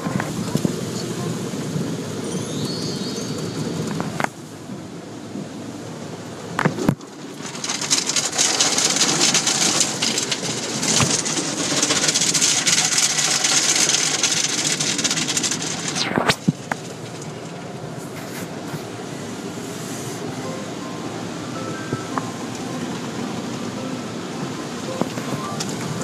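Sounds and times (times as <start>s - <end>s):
car wash equipment rushing: 3.3s - 26.0s.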